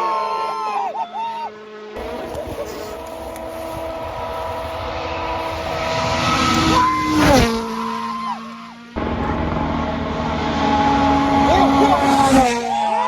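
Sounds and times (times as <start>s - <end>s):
vehicle engine: 0.0s - 13.0s
another engine: 1.5s - 13.0s.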